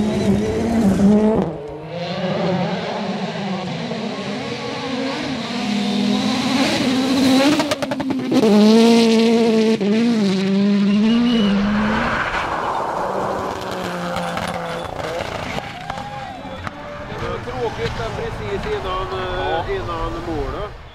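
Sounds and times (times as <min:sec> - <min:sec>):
rally car engines revving: 0:00.0 - 0:20.9.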